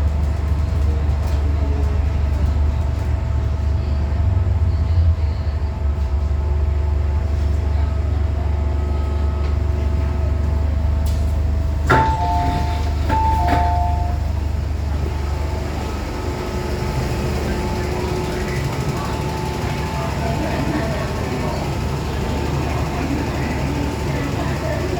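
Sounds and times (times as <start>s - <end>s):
train carriage rumbling: 0.0s - 24.9s.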